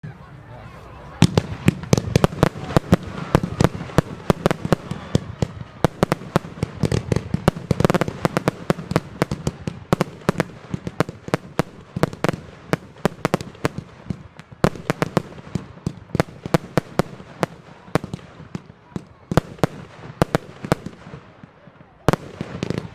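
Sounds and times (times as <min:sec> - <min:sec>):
firework rapid sharp bangs: 0:01.2 - 0:22.9.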